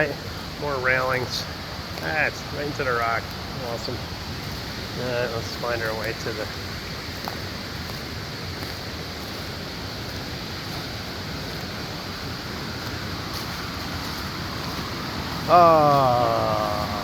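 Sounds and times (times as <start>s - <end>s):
creek and waterfall rushing: 0.0s - 17.0s.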